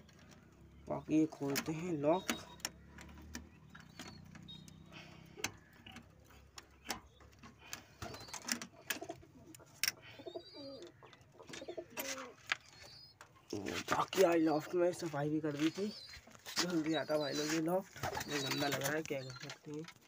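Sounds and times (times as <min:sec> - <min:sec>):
pigeons cooing: 0:00.1 - 0:19.6.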